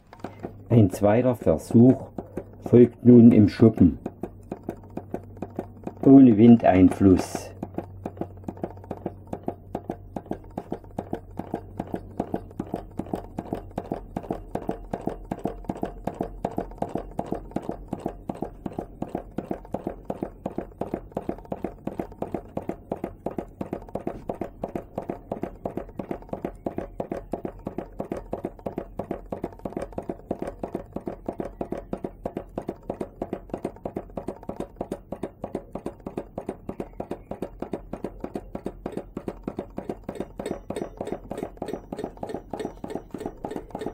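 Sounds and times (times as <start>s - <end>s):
small engine clacking: 0.0s - 43.9s.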